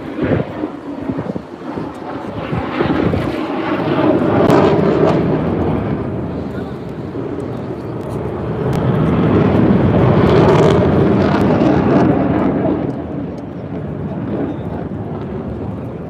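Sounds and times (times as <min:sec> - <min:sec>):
aircraft engine passing: 0:00.0 - 0:16.0.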